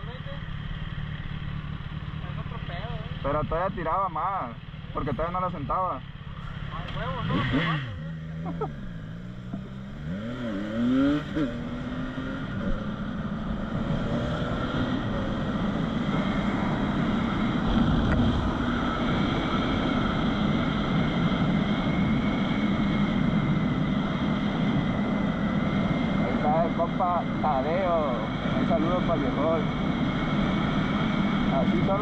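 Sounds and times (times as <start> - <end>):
motorcycle engine revving: 0.0 - 32.0
road and wind noise: 0.0 - 32.0.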